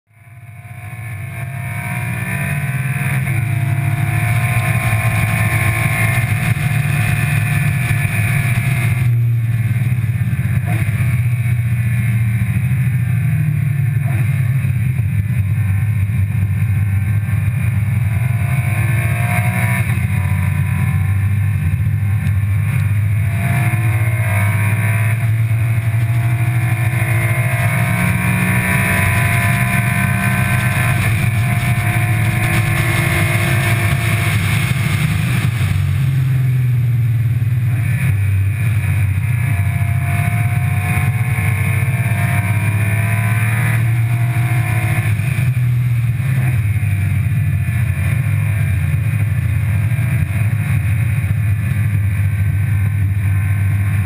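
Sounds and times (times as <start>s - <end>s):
road and wind noise: 0.1s - 54.0s
car engine revving: 0.2s - 54.0s.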